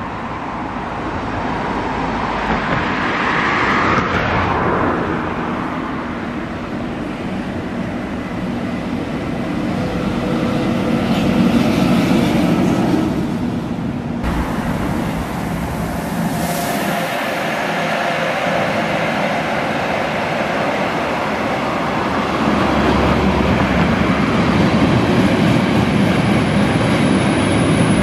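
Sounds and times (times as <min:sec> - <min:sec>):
electric locomotive passing: 0:00.0 - 0:28.0.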